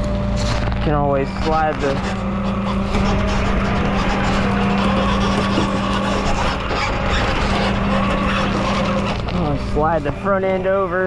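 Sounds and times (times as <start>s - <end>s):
tow truck engine and hydraulics humming: 0.0s - 11.0s.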